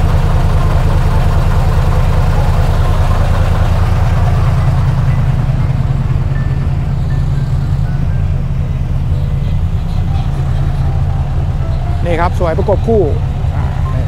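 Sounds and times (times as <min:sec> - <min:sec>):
diesel truck engines idling: 0:00.0 - 0:14.0.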